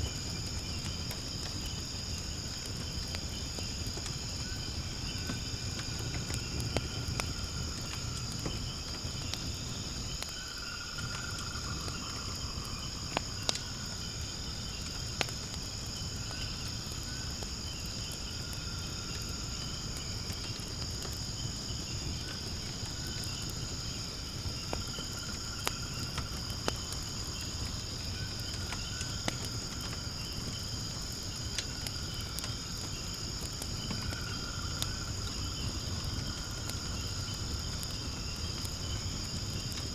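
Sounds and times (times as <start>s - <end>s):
firewood crackling and popping: 0.0s - 39.9s
insects chorus: 0.0s - 39.9s
low insect trill: 0.0s - 39.9s.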